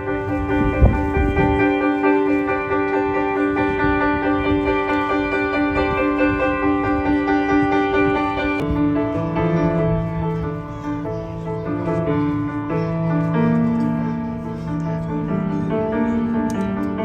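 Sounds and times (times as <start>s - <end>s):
sustained keyboard chords: 0.0s - 17.0s.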